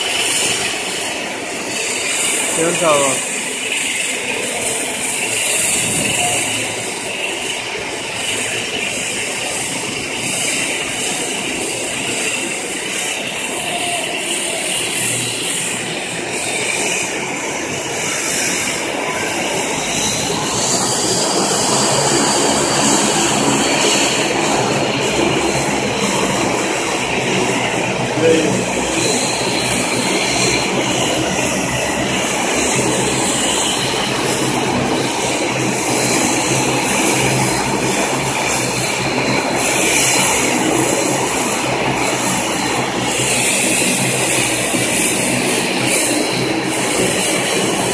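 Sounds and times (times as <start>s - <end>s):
jet engines roaring: 0.0s - 47.9s.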